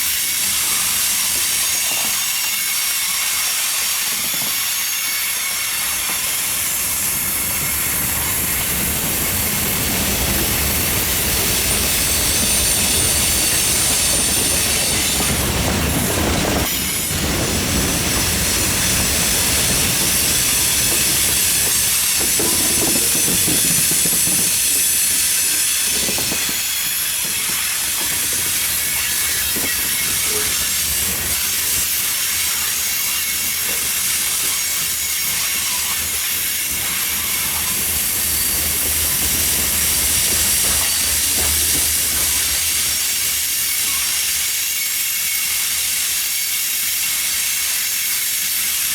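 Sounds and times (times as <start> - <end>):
freight train wheels rumbling: 0.0 - 45.9
high-pitched wheel hiss on rails: 0.4 - 48.7.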